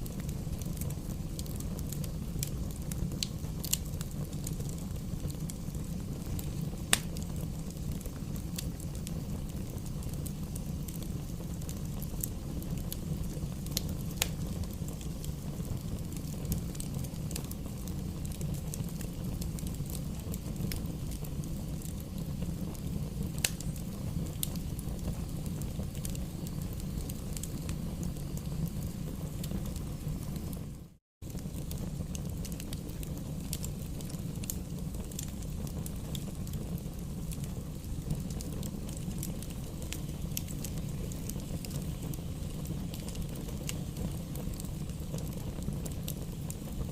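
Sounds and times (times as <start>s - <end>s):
bonfire crackling: 0.0s - 46.9s.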